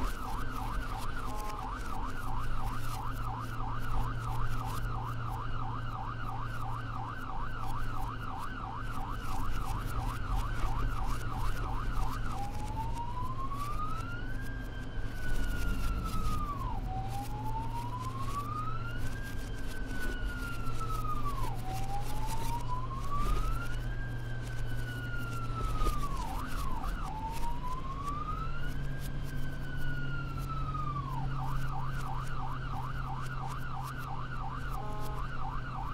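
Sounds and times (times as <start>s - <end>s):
ambulance siren wailing and yelping: 0.0s - 35.9s
steady low hum: 0.0s - 35.9s.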